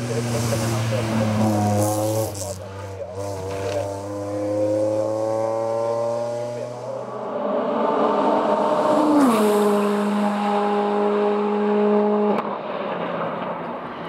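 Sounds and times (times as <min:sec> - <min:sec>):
race car engine at full throttle: 0:00.0 - 0:14.0.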